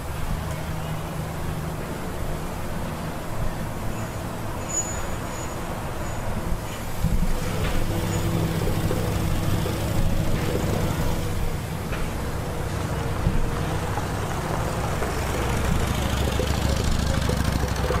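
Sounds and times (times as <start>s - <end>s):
engines low drone: 0.0s - 18.0s.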